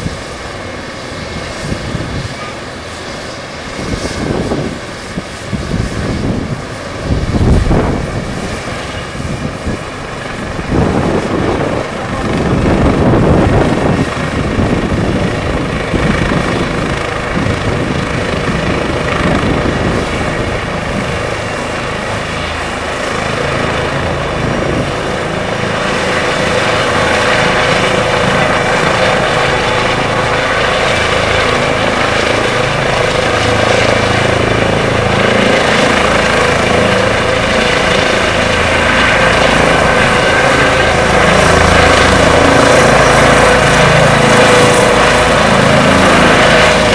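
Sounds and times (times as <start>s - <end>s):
helicopter rotor beat: 0.0s - 46.9s
turbine whine: 0.0s - 46.9s.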